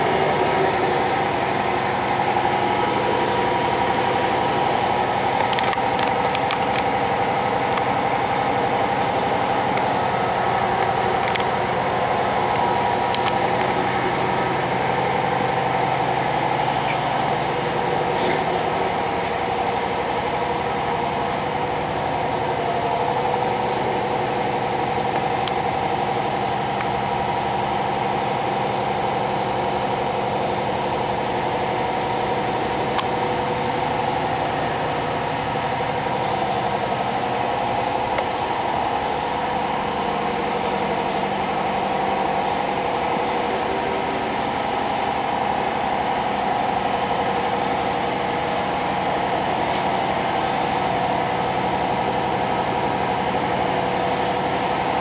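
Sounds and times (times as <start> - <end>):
shop machinery humming: 0.0 - 55.0.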